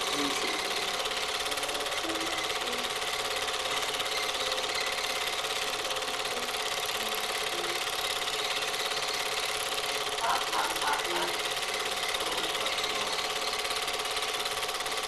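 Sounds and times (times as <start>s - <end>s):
film projector clatter: 0.0s - 15.0s
projector whine: 0.0s - 15.0s.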